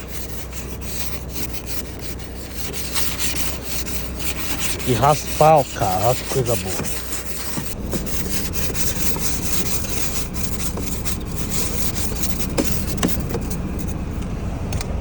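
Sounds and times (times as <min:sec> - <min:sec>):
ice scraper rasping ice: 0:00.0 - 0:14.0.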